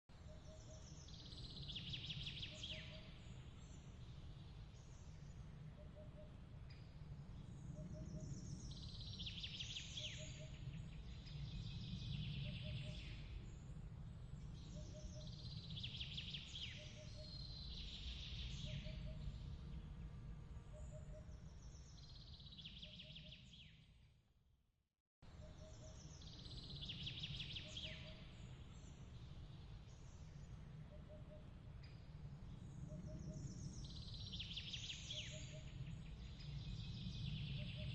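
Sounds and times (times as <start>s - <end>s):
songbird trills: 0.1s - 13.8s, 14.4s - 19.8s, 20.7s - 23.9s, 25.2s - 37.9s.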